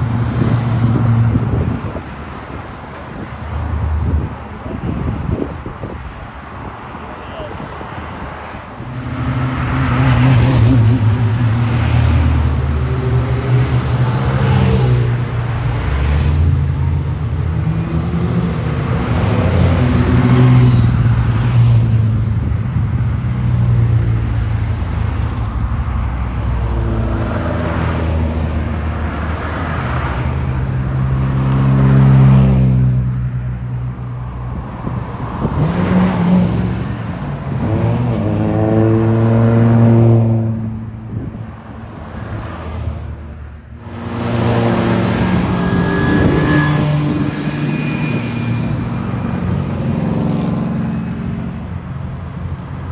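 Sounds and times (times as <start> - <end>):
racing car engines passing by: 0.0 - 52.9.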